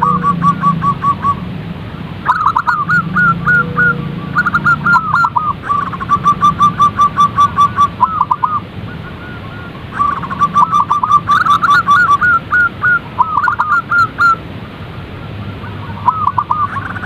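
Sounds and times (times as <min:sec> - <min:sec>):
doves cooing in staccato notes: 0:00.0 - 0:01.5, 0:02.1 - 0:17.0.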